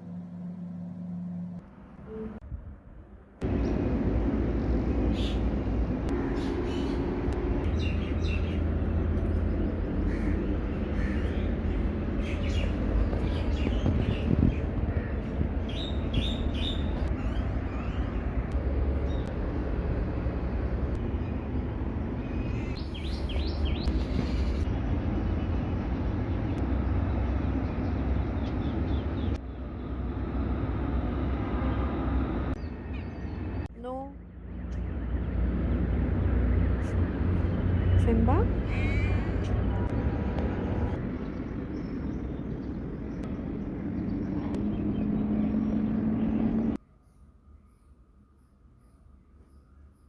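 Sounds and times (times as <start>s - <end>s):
steady low rumble: 0.0s - 46.8s
birds chirping: 3.4s - 30.6s, 31.6s - 50.0s.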